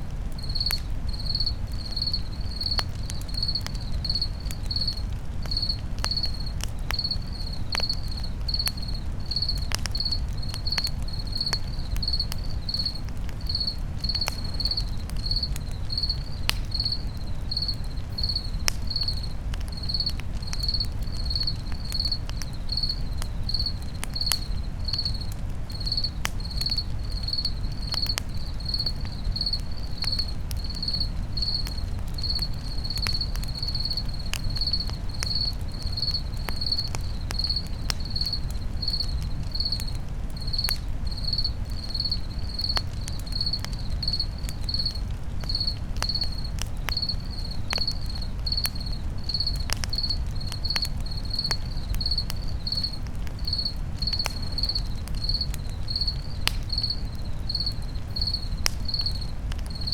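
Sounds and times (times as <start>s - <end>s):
campfire crackling and popping: 0.0s - 59.9s
crickets chirping: 0.1s - 59.9s.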